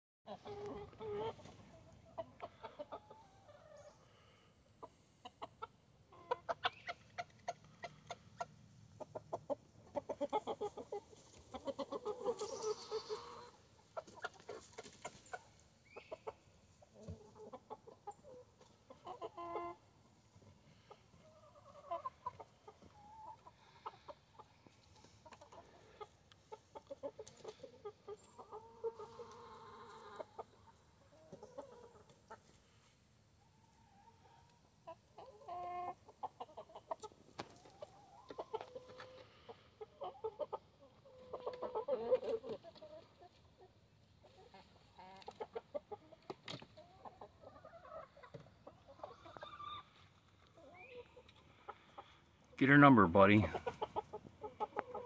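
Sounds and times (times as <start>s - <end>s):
hens and roosters clucking: 0.3s - 55.0s.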